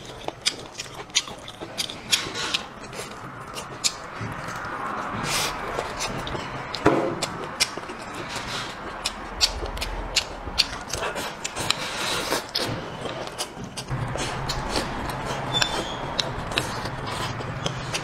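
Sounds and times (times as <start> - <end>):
chewing and sucking meat: 0.0 - 18.0.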